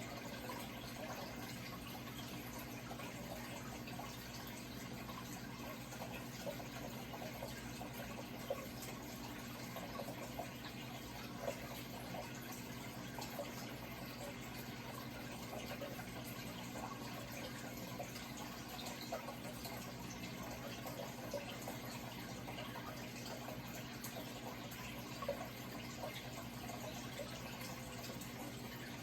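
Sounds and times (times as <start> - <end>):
water trickling and bubbling: 0.0 - 29.0.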